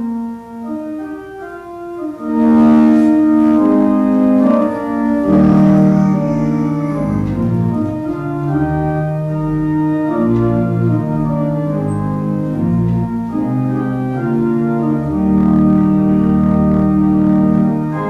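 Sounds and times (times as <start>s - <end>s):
organ music: 0.0s - 18.0s.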